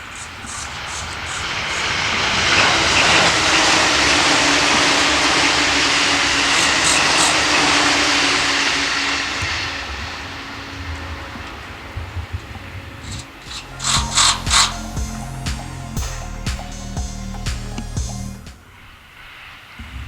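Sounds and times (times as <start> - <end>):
electric train passing at speed: 0.0 - 16.7.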